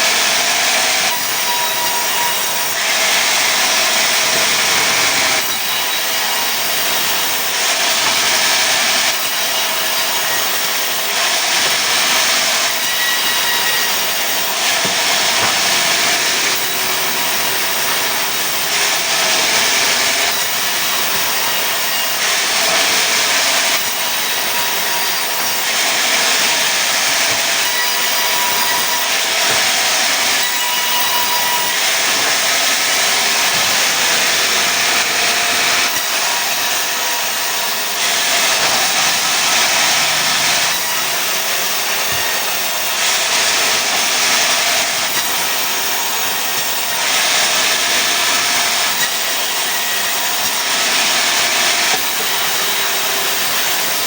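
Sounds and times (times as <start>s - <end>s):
saw cutting wood: 0.0s - 54.0s.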